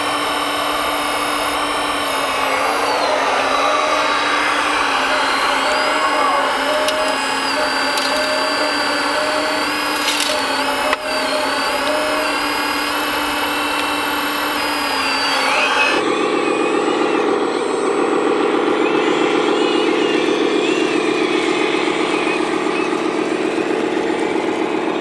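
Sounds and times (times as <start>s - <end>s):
hydraulic pump whining: 0.0s - 25.0s
low pulsing engine-like sound: 0.0s - 25.0s.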